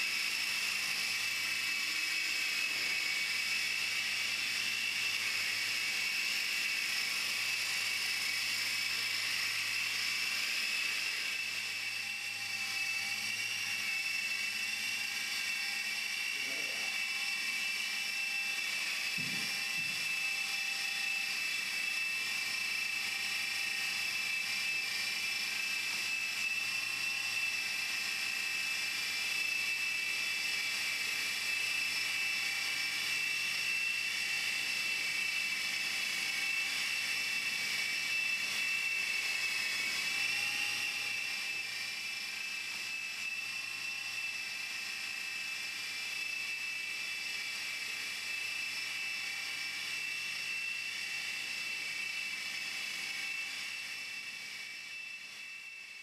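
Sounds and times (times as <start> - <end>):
helicopter rotor whine: 0.0 - 56.0.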